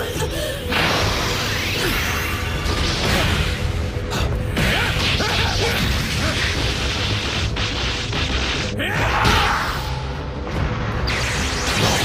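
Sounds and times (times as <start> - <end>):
dramatic music score: 0.0 - 12.0.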